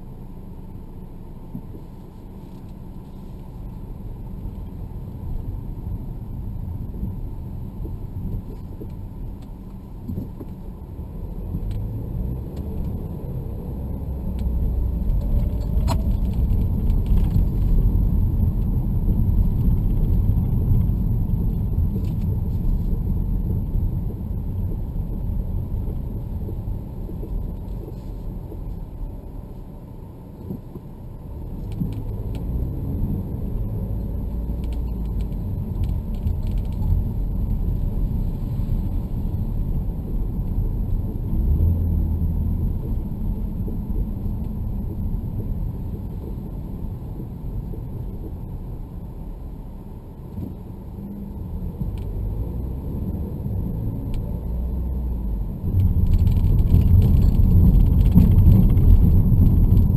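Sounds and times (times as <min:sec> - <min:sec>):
road and engine rumble: 0:00.0 - 0:59.9.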